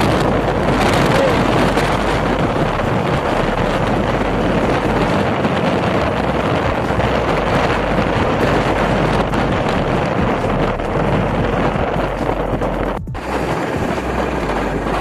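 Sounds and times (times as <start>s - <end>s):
motorcycle engine: 0.0s - 15.0s
road noise: 0.0s - 15.0s
wind rushing on microphone: 0.0s - 15.0s.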